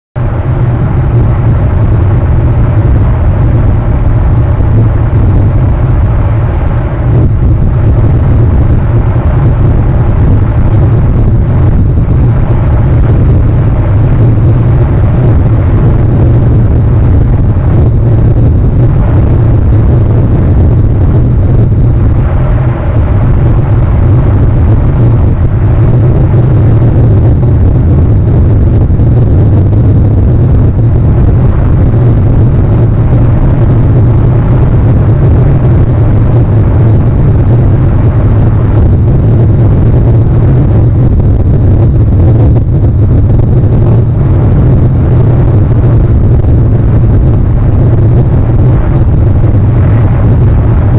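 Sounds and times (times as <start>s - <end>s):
wind roaring: 0.0s - 50.9s.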